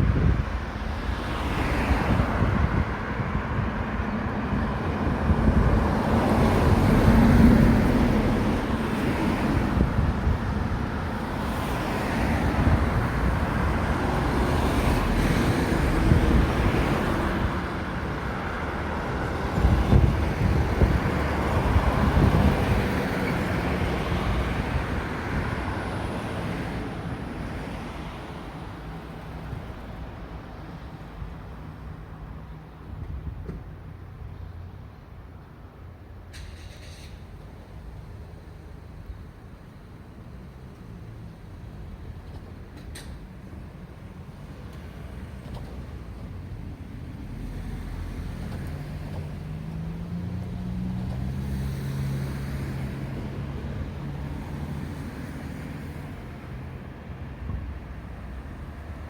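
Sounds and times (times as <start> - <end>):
highway traffic passing: 0.0 - 59.0.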